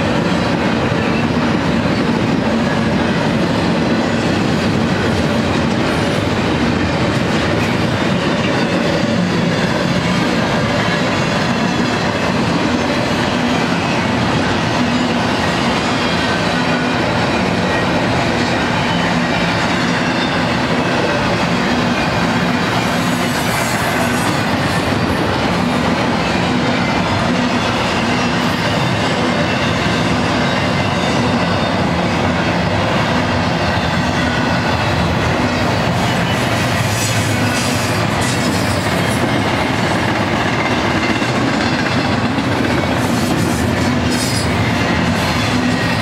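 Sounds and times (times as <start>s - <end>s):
steel train wheels on rails: 0.0s - 46.0s.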